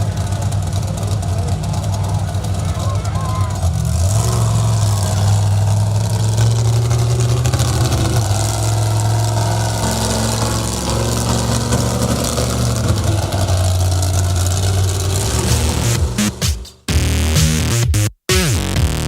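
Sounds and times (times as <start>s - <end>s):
monster truck engine running: 0.0s - 17.8s.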